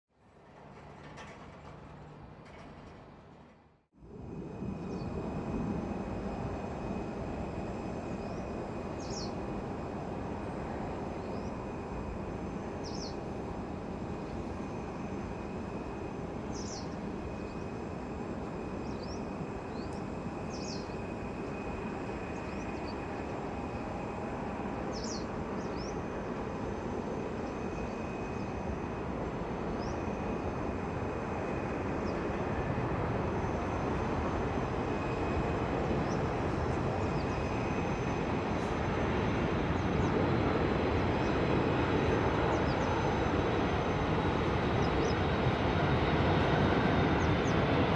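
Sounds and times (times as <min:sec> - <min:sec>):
distant jet airliner landing: 0:00.2 - 0:47.9
faint high whine: 0:04.0 - 0:47.9.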